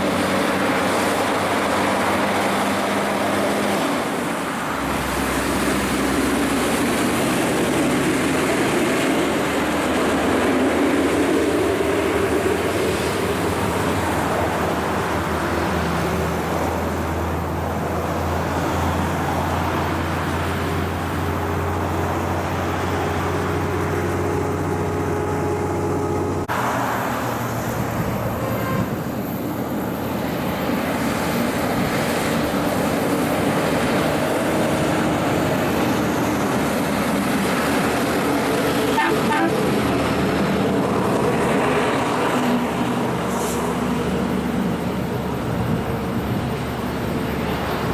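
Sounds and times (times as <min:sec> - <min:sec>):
diesel truck pulling away: 0:00.0 - 0:47.9
truck approaching and passing: 0:00.0 - 0:47.9.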